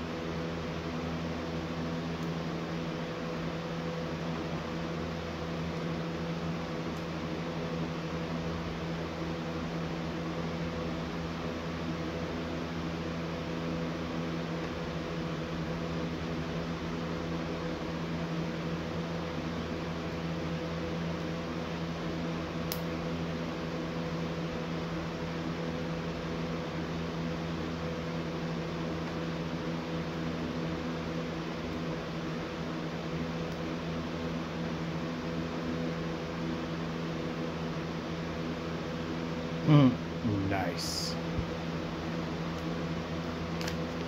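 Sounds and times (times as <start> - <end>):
mechanical hum: 0.0 - 44.0.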